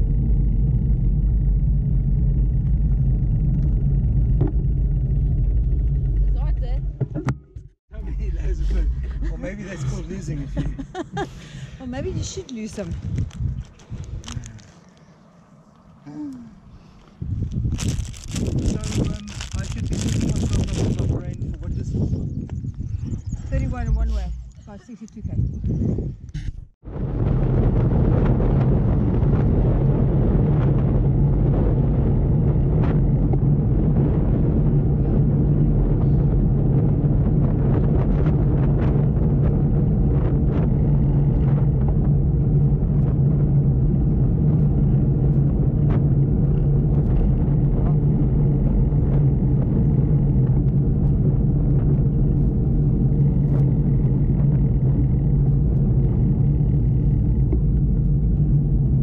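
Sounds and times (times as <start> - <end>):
wind and road rumble: 0.0 - 59.0.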